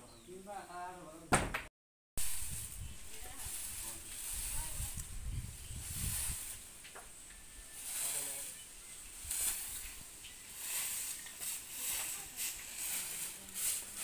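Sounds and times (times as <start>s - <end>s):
twig broom sweeping dirt: 2.2s - 14.0s.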